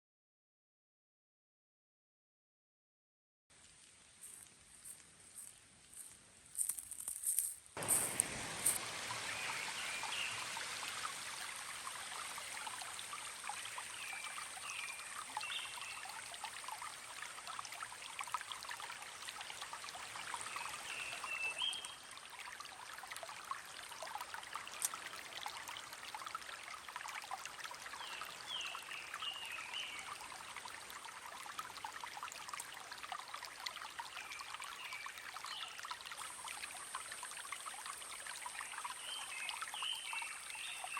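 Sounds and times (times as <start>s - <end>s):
stream running over rocks: 3.5s - 40.9s.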